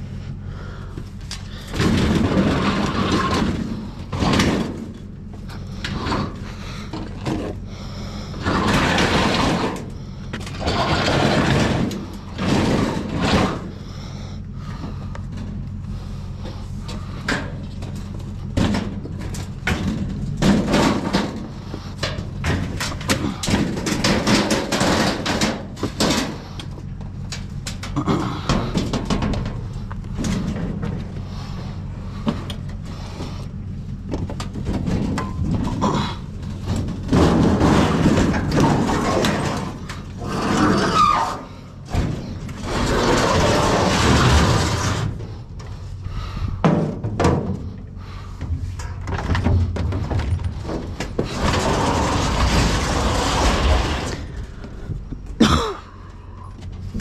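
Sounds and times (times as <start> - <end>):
engine idling hum: 0.0 - 57.0.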